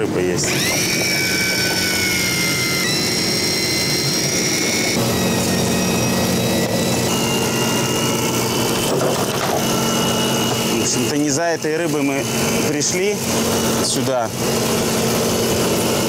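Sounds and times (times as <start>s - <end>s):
boat engine drone: 0.0s - 16.0s
electric fishing reel whining: 0.2s - 16.0s.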